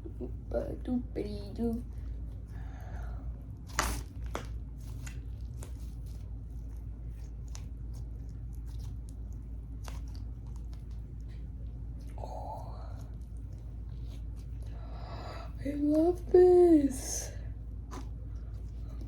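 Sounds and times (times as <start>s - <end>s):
slime squishing: 0.0s - 19.0s
steady low hum: 0.0s - 19.0s.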